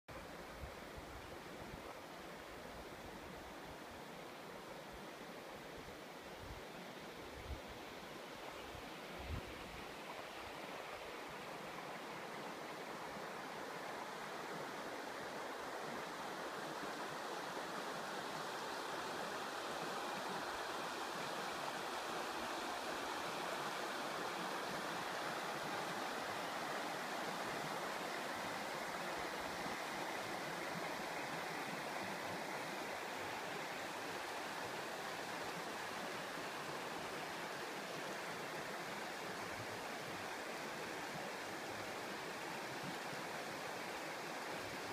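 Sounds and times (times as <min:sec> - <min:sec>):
river rushing over stones: 0:00.2 - 0:44.9.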